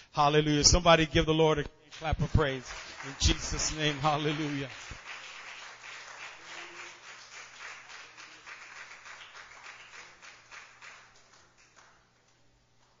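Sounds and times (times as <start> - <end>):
congregation clapping: 1.9 - 13.0.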